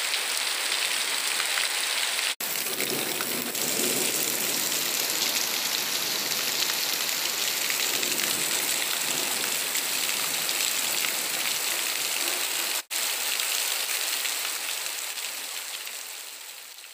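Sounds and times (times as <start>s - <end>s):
heavy rain on roofs: 0.0s - 16.9s.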